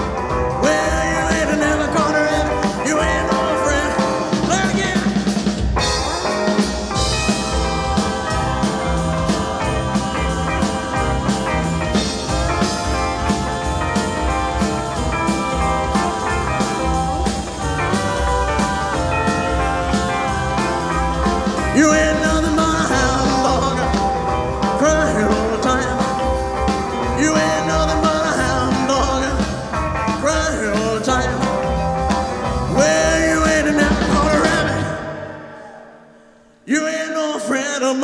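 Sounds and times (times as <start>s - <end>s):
rock band playing: 0.0s - 36.6s.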